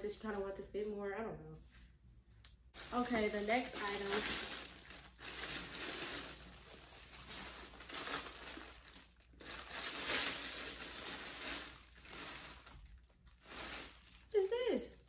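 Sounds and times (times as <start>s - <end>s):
plastic bag crinkling: 2.7s - 14.8s.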